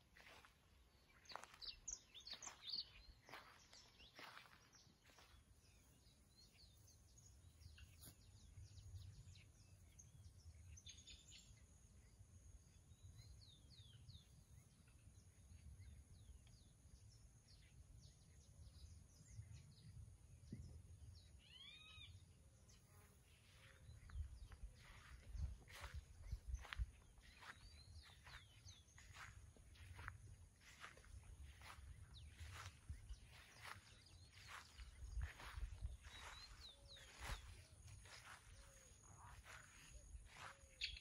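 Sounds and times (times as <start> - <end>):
distant birdsong chirps: 0.0 - 41.0.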